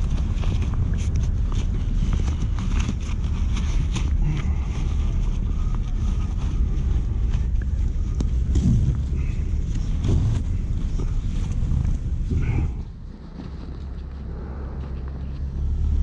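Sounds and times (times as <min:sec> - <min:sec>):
fabric rubbing against microphone: 0:00.0 - 0:16.0.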